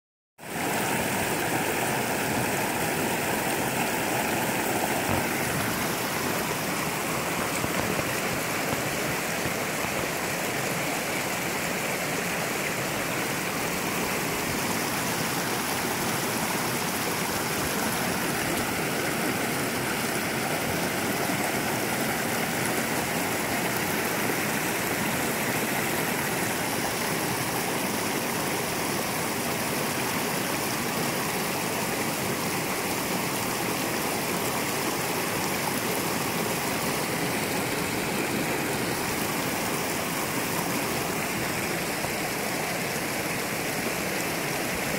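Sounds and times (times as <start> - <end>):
creek rushing over rocks: 0.4 - 44.9.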